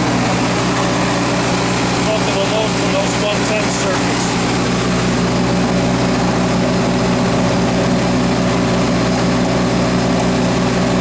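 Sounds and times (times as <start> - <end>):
generator engine running: 0.0 - 11.0.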